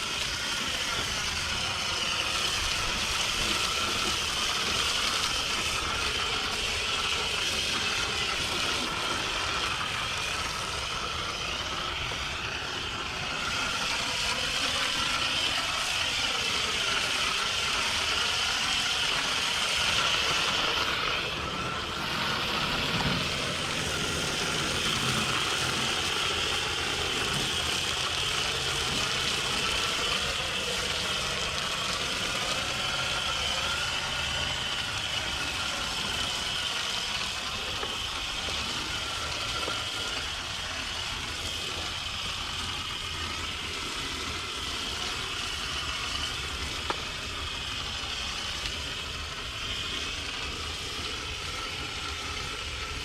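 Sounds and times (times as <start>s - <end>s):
garden hose spraying: 0.0s - 53.0s.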